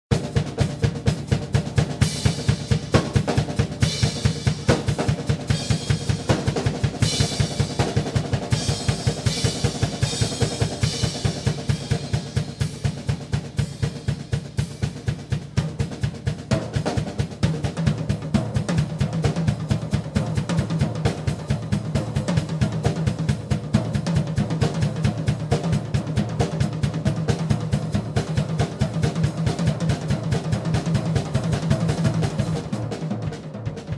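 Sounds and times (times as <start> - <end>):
drum kit played fast: 0.0 - 33.9.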